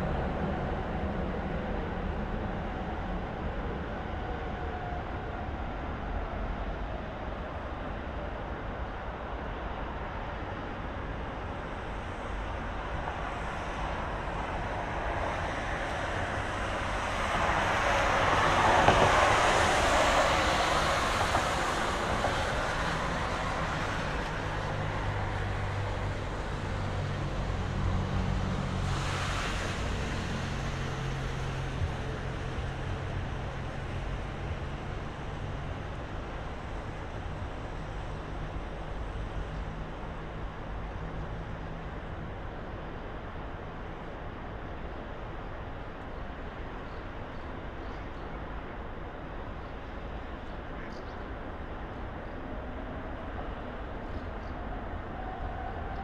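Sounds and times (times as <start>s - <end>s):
city traffic noise: 0.0s - 56.0s
low steady engine hum: 0.0s - 56.0s.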